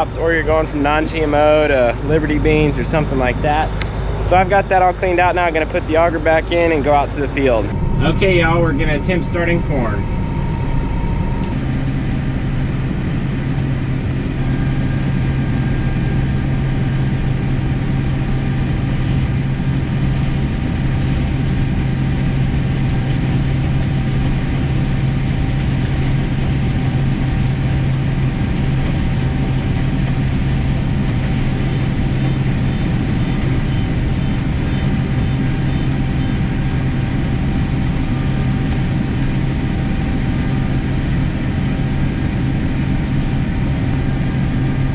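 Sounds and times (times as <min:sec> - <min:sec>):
higher machine tones: 0:00.0 - 0:41.2
combine harvester engine drone: 0:00.0 - 0:44.9.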